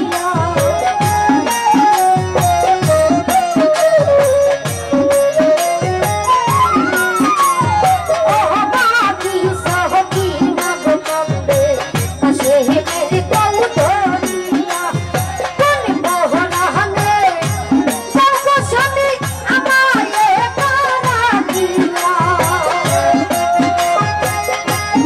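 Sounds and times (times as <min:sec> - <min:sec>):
hand drums: 0:00.0 - 0:25.0
jingling percussion: 0:00.0 - 0:25.0
woman singing into a microphone: 0:00.0 - 0:25.0.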